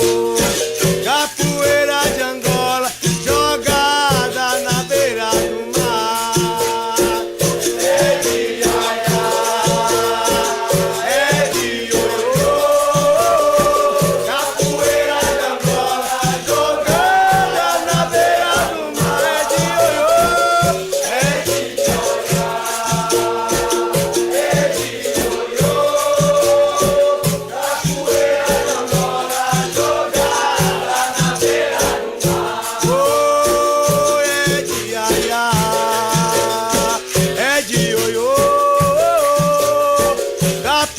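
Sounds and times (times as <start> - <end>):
berimbau with shaker rattle: 0.0 - 40.9
voices singing call and response: 0.0 - 40.9.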